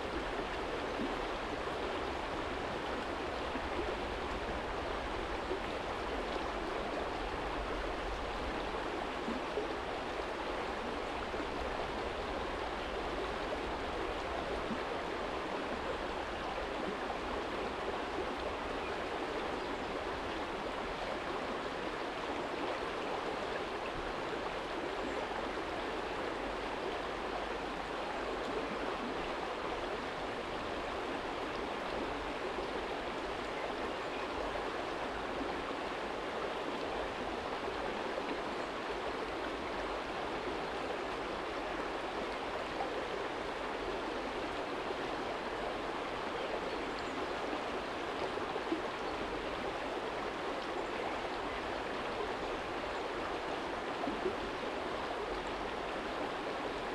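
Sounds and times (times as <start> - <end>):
stream babbling over stones: 0.0 - 56.9.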